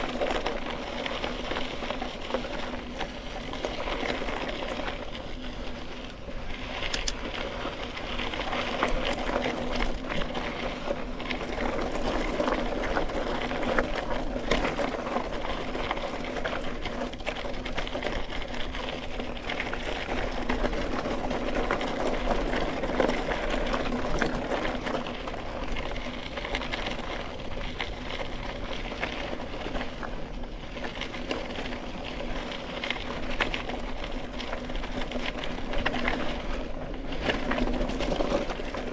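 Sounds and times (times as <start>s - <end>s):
tyres rolling on dirt and gravel: 0.0s - 38.9s.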